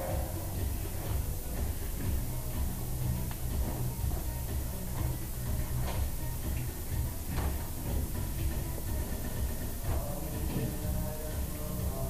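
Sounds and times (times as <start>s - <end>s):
music with steady bass beat: 0.0s - 12.0s.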